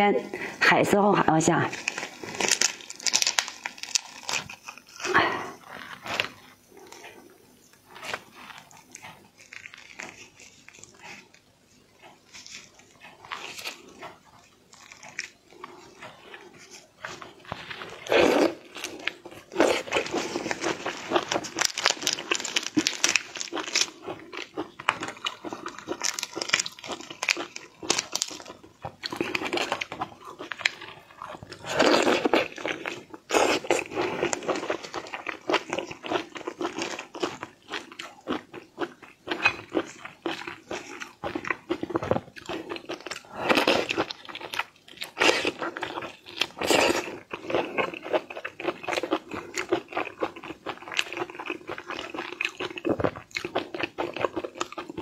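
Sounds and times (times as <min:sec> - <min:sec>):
chewing and biting shrimp: 0:01.7 - 0:55.0.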